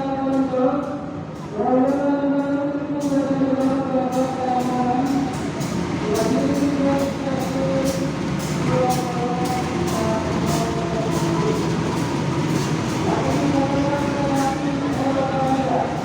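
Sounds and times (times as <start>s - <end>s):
train wheels clacking: 0.2s - 16.0s.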